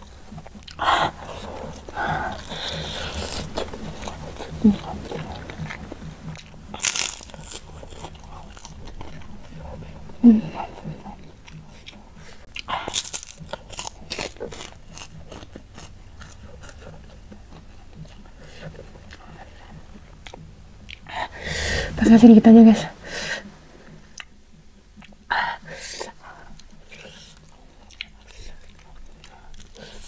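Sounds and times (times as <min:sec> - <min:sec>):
chewing with wet mouth clicks: 0:00.0 - 0:21.1, 0:25.0 - 0:25.3, 0:25.9 - 0:30.0.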